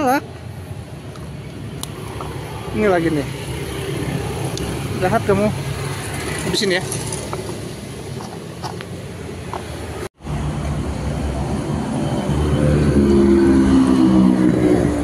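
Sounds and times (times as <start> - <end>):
road traffic noise: 0.0 - 15.0
passing vehicle engine: 0.6 - 15.0.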